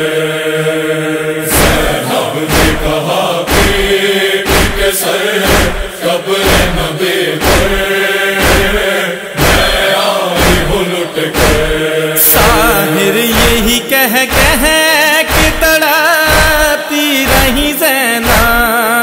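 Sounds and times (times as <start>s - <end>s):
voice chanting a lament: 0.0s - 19.0s
heavy chest-beating thuds: 1.5s - 16.7s, 17.3s - 18.7s.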